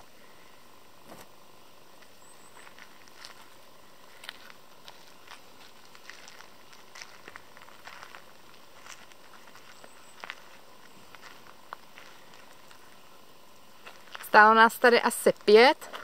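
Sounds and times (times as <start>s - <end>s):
footsteps on gravel: 1.9s - 16.0s.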